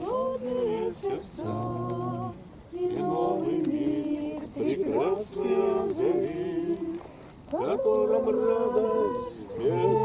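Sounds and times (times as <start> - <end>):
group singing a slow hymn: 0.0 - 10.0.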